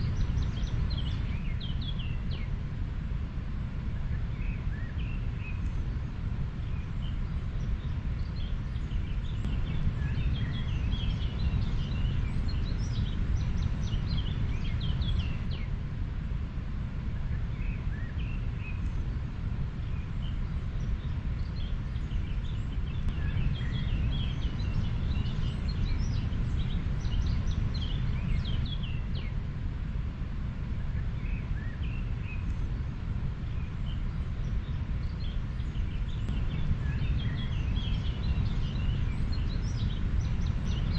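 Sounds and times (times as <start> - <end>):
small birds chirping: 0.0 - 16.4, 17.0 - 40.9.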